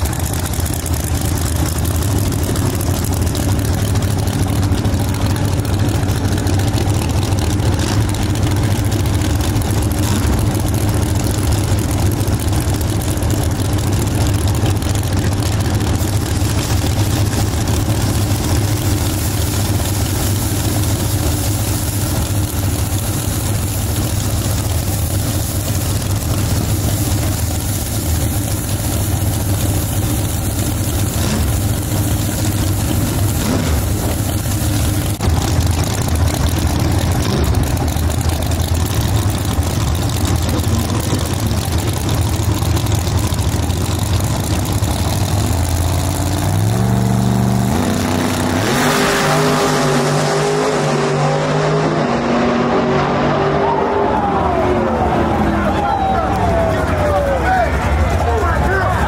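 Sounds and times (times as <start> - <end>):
race car engines idling: 0.0 - 59.0.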